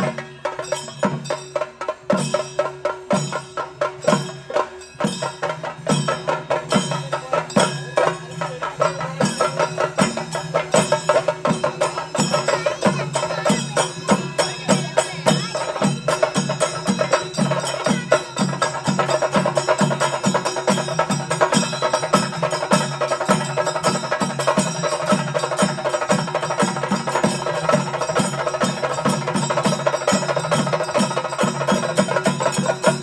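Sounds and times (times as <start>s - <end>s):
drum ensemble fast roll: 0.0s - 33.0s.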